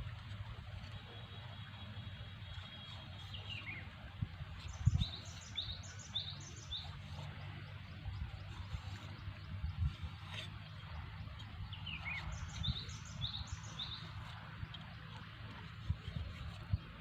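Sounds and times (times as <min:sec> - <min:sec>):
steady low rumble: 0:00.0 - 0:17.0
bird chirping: 0:02.6 - 0:03.9, 0:04.6 - 0:17.0.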